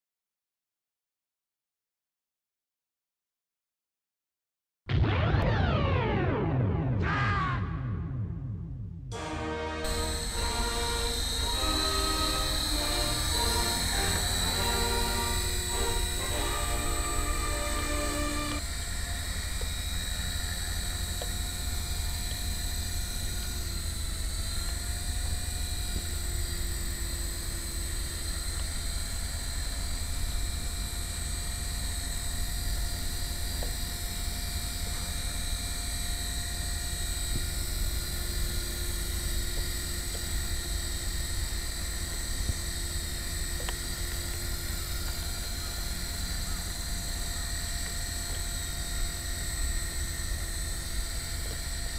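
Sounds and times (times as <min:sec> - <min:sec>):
motor high whine: 0:09.1 - 0:51.9
model helicopter rotor noise: 0:09.8 - 0:51.9.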